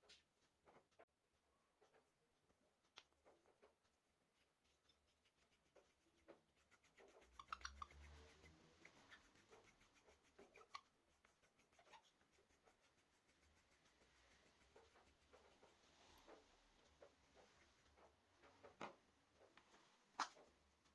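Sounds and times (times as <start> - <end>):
faint scraping and rubbing: 0.0 - 20.9.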